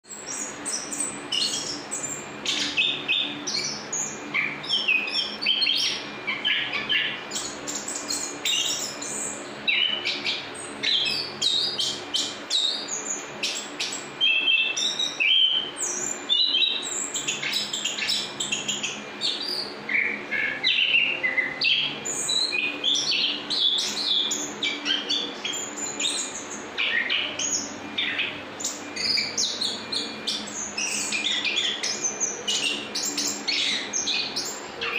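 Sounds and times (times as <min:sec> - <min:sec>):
thrush singing chirps and whistles: 0:00.0 - 0:34.9.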